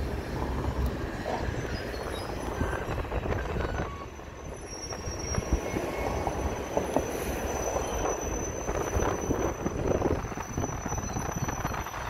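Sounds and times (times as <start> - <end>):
rumble of train wheels: 0.0 - 12.0
high-pitched wheel squeal: 0.3 - 12.0.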